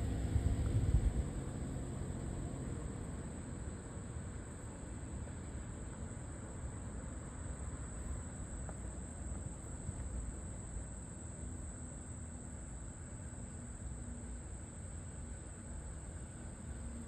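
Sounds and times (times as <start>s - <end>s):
insects droning high whine: 0.0s - 17.0s.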